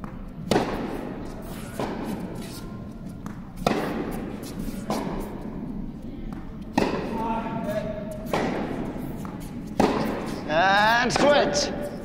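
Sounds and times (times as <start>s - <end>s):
racket hitting tennis ball: 0.0s - 12.0s.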